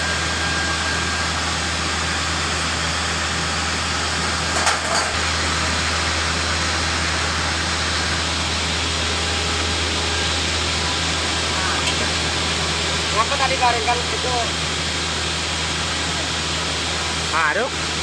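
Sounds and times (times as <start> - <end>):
machinery droning: 0.0 - 18.0.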